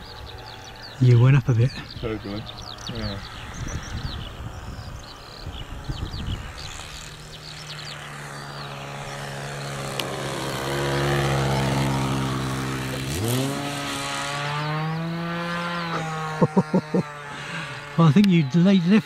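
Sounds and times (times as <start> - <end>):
model plane engine running: 0.0 - 19.0.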